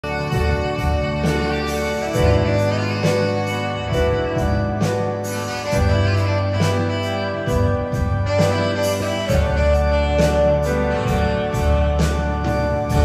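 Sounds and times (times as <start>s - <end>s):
bass line: 0.0s - 13.0s
drums and cymbals: 0.0s - 13.0s
keyboard and organ chords: 0.0s - 13.0s.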